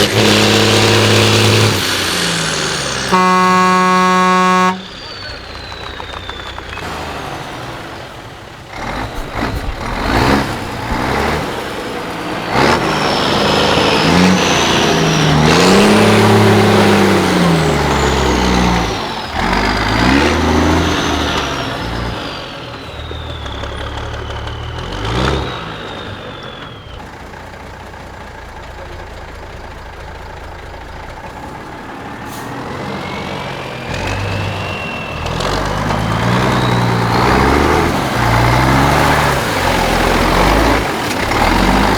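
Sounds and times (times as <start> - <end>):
truck diesel engine revving: 0.0 - 41.9.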